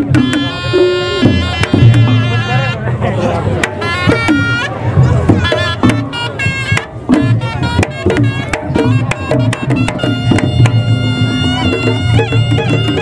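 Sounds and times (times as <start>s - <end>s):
hand drums beaten quickly: 0.0s - 13.0s
reed pipe melody: 0.0s - 13.0s.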